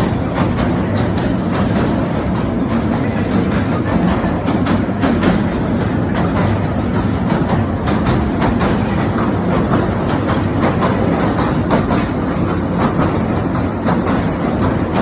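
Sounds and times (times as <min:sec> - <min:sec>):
train rumbling over bridge: 0:00.0 - 0:15.0.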